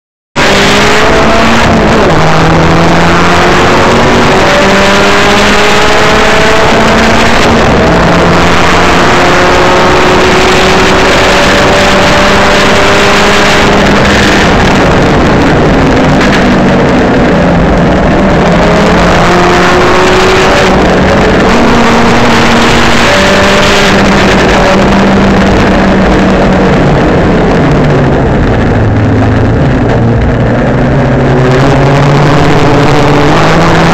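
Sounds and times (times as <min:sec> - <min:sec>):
race car engine revving: 0:00.4 - 0:33.9.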